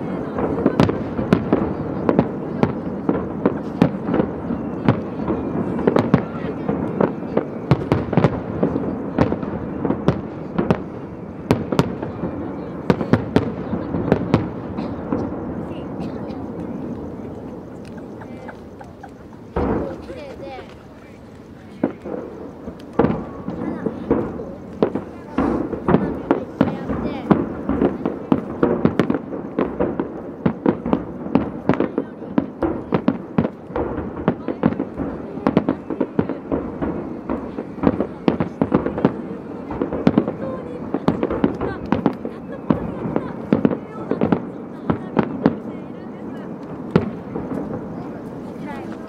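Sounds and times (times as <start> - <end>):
firework shells bursting: 0.2 - 49.0.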